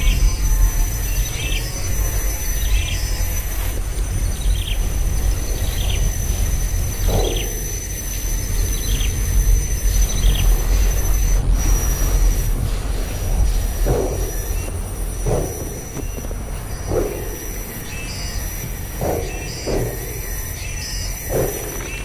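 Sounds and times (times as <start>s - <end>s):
constant low rumble: 0.0s - 22.0s
high insect whine: 0.0s - 22.0s.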